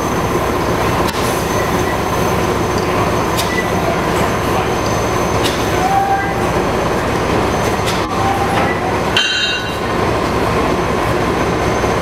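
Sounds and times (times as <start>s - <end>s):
wheels squealing on rail: 0.0s - 9.9s
steam locomotive rumble and hiss: 0.0s - 12.0s.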